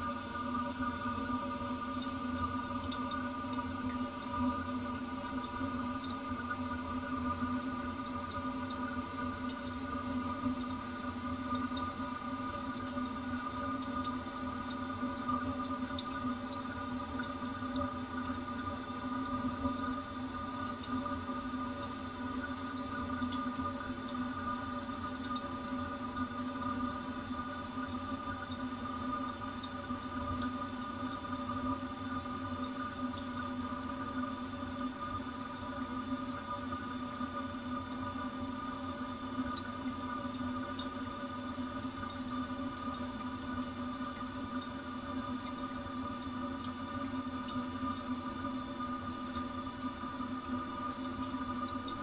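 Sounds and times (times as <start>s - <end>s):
water running into toilet cistern: 0.0s - 52.0s.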